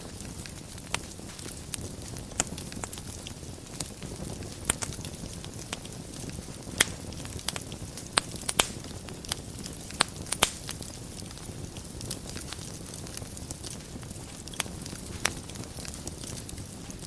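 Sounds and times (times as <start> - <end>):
fire hissing: 0.0 - 17.0
fire popping and crackling: 0.0 - 17.0.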